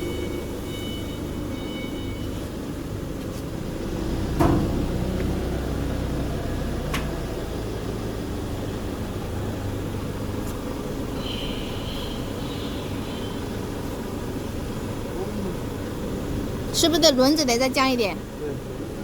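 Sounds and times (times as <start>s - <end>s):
low machinery hum: 2.4s - 19.0s.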